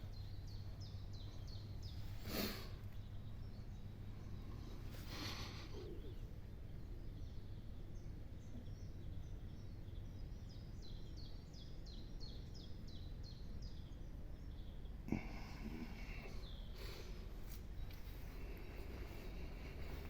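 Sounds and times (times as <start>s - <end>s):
steady low rumble: 2.8s - 20.0s.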